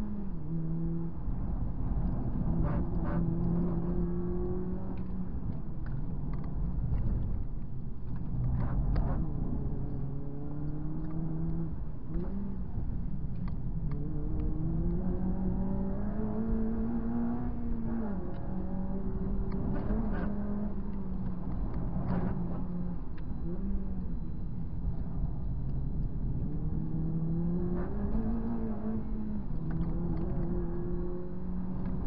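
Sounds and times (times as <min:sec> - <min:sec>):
car engine at high revs: 0:00.0 - 0:32.0
tyre and road noise: 0:00.0 - 0:32.0.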